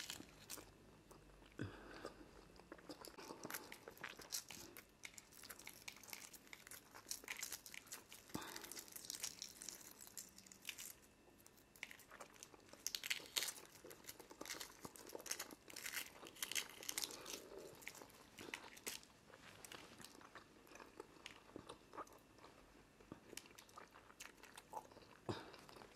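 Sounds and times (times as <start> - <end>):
eggshells cracking and crinkling: 0.0 - 0.8, 2.6 - 25.9.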